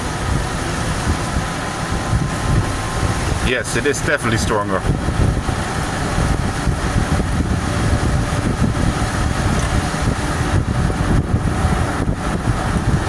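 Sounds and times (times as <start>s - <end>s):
golf cart rumble: 0.0s - 13.0s
wind buffeting microphone: 0.0s - 13.0s.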